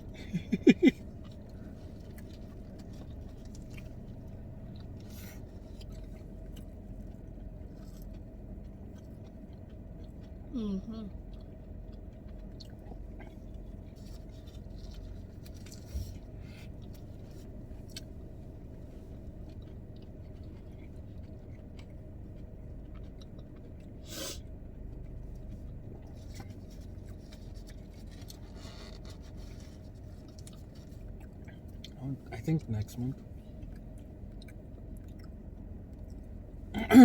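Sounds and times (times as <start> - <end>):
quiet chewing: 0.0 - 36.8
low hum: 0.0 - 37.0.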